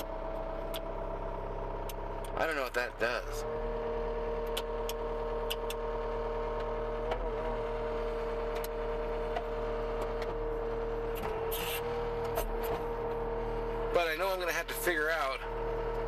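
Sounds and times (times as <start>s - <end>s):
engine running heard from cab: 0.0s - 16.0s.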